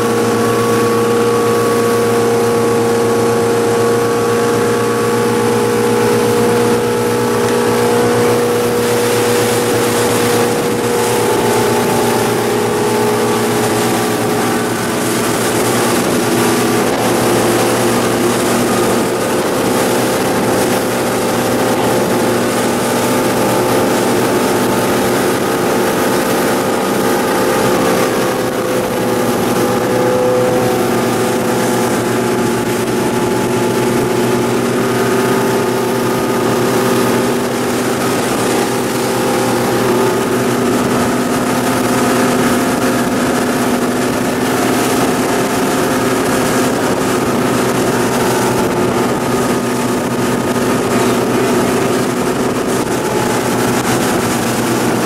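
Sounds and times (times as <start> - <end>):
boat engine drone: 0.0 - 55.0
water rushing along hull: 0.0 - 55.0.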